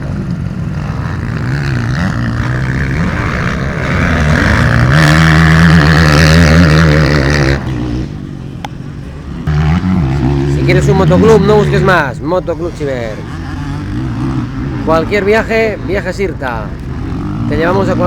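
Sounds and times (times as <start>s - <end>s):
motocross engines revving: 0.0s - 18.0s.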